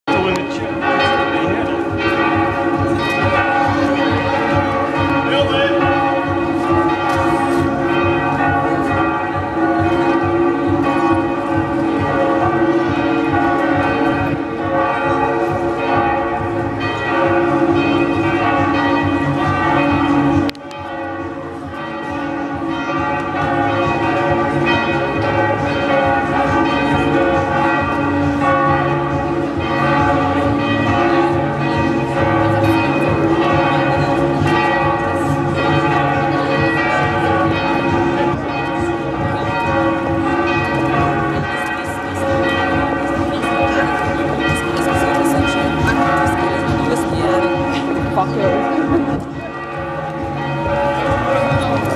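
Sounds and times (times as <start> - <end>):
church bells pealing: 0.1 - 51.9.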